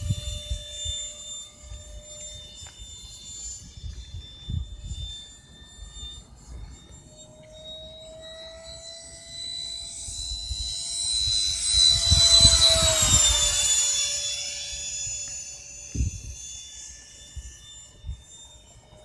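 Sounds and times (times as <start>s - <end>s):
model jet fans whining: 0.0s - 19.0s.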